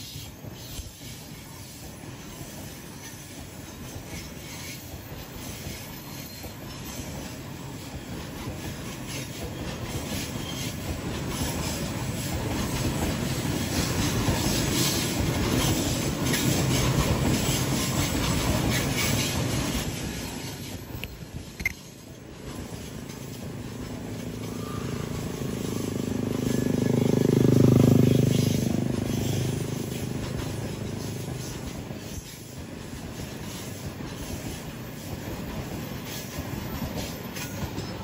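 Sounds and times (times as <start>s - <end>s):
train wheels rumbling and clattering: 0.0s - 38.0s.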